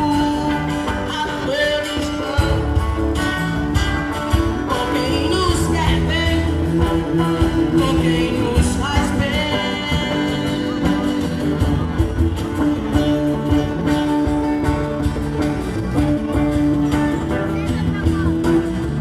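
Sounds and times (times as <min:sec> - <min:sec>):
cajon beat: 0:00.0 - 0:19.0
live band playing: 0:00.0 - 0:19.0.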